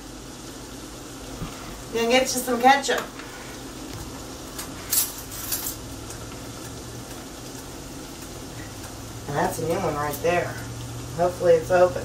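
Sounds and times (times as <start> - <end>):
meat and onions sizzling in a pan: 0.0 - 12.0.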